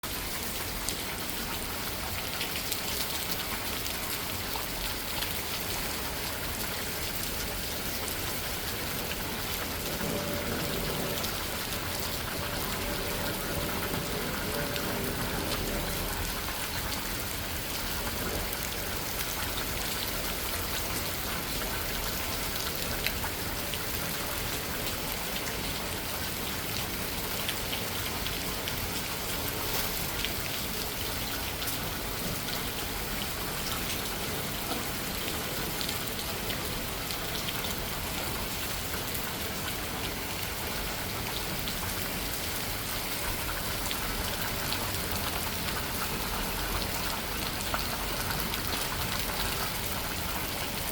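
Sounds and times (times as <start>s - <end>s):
heavy rain pattering: 0.0s - 50.9s.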